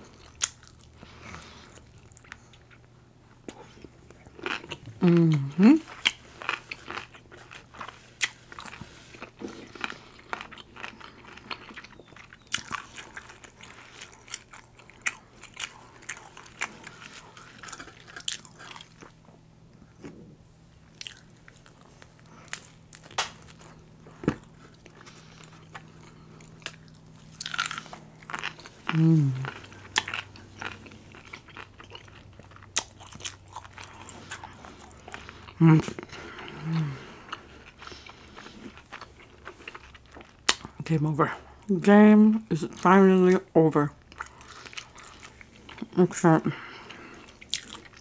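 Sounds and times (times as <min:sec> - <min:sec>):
person chewing food: 0:00.0 - 0:41.7, 0:42.4 - 0:48.0.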